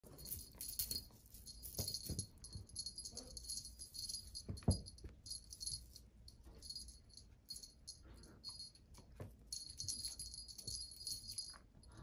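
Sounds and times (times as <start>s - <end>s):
cat toy jingling and rattling: 0.0s - 12.0s.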